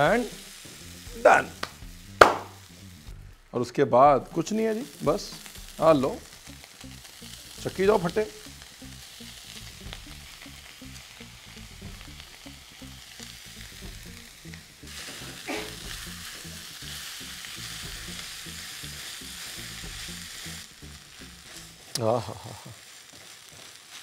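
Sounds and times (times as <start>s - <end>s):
food sizzling in a pan: 0.0s - 3.6s, 4.2s - 24.0s.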